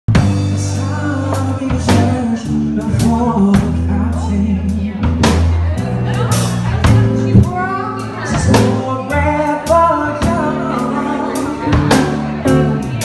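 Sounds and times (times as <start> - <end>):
drum kit: 0.1 - 13.0
electric bass: 0.1 - 13.0
man singing lead vocal: 0.4 - 5.3, 6.9 - 13.0.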